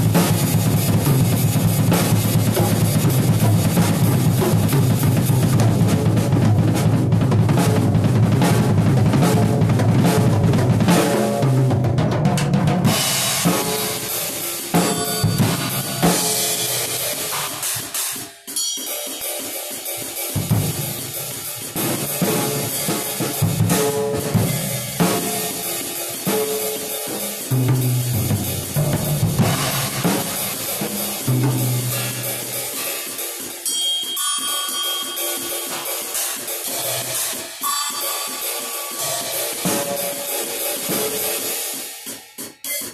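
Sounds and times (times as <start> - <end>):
acoustic drum kit playing: 0.0 - 42.9.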